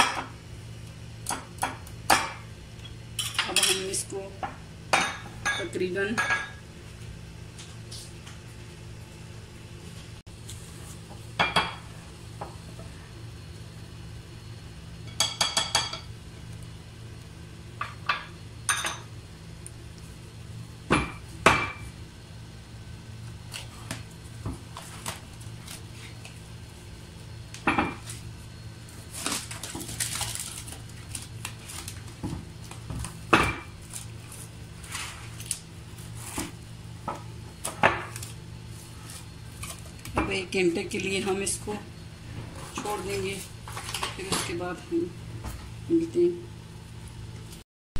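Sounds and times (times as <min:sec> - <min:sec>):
steady low hum: 0:00.0 - 0:47.6.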